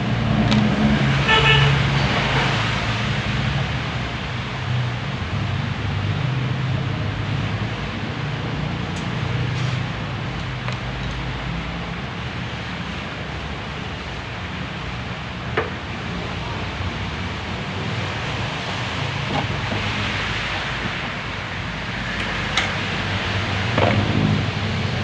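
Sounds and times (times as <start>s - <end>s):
wind-like background noise: 1.8s - 25.0s.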